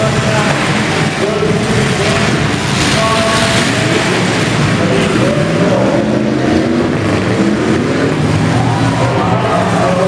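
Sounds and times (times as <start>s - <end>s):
car engines running and revving: 0.0s - 10.0s.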